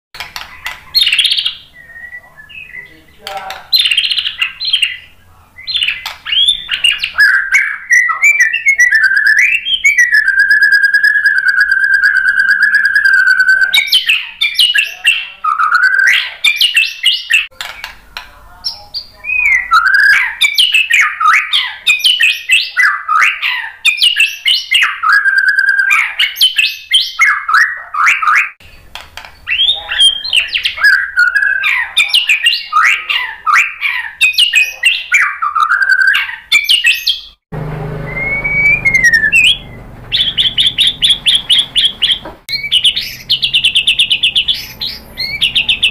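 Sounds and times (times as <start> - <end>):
bird singing whistled phrases: 0.5 - 17.5, 18.7 - 28.6, 29.4 - 37.4, 38.0 - 45.9.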